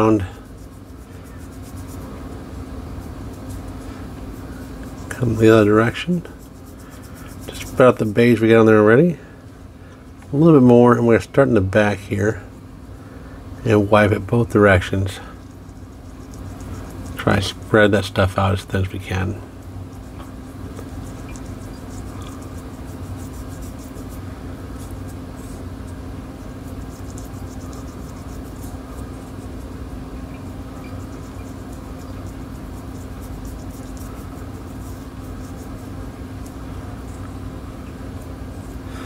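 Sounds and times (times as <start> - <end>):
low background hum: 0.0 - 39.0.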